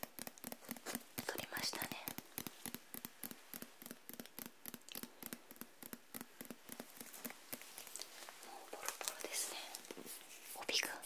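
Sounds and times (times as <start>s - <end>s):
fingernails tapping on book cover: 0.0s - 10.4s.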